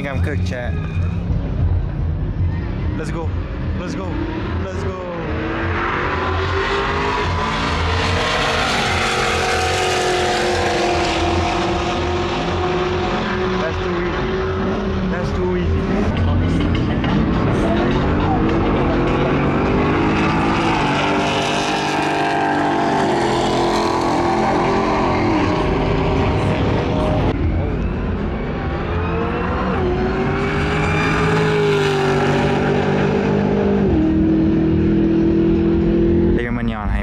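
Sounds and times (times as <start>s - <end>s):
truck engines revving: 0.0s - 37.0s.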